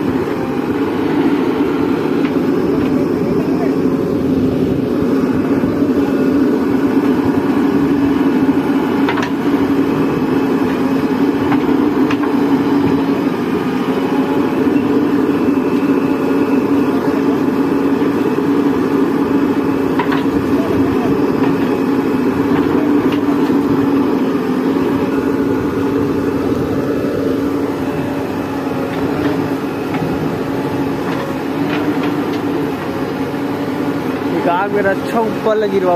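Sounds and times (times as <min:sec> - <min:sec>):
diesel engines running: 0:00.0 - 0:35.9.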